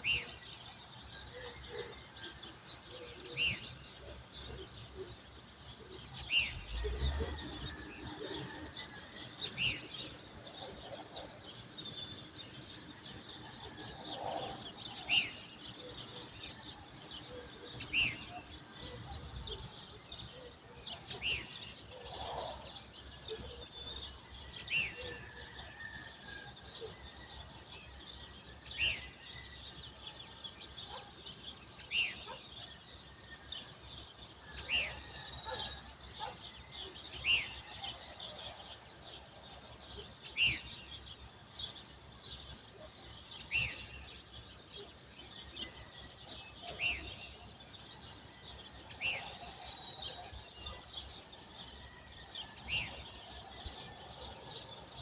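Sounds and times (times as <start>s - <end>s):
songbirds twittering: 0.0s - 55.0s.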